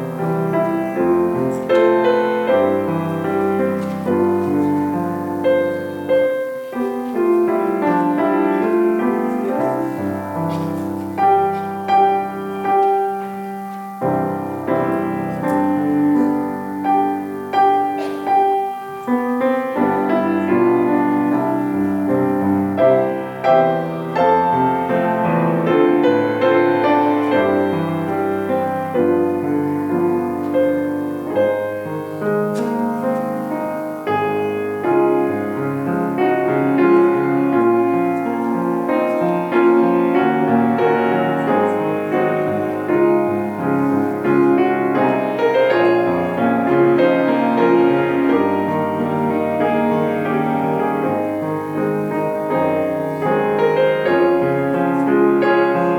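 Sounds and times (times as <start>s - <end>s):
piano piece: 0.0s - 55.9s.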